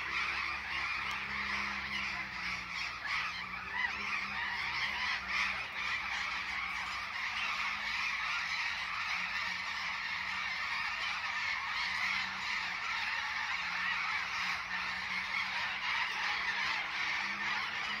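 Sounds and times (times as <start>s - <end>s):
many birds calling: 0.0s - 18.0s.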